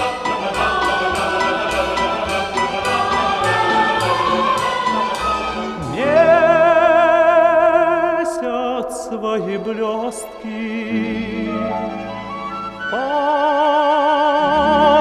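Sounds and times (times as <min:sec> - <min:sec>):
orchestral operatic song: 0:00.0 - 0:15.0.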